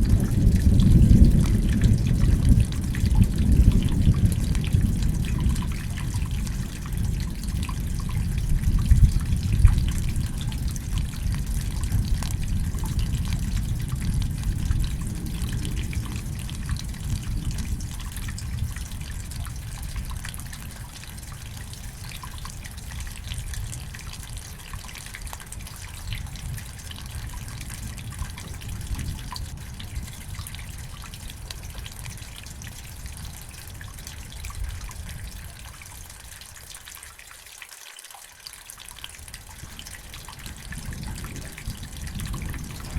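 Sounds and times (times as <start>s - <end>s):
low thunder rumble: 0.0s - 36.0s, 39.4s - 42.9s
steady rain: 0.0s - 42.9s
water dripping and trickling: 0.0s - 42.9s.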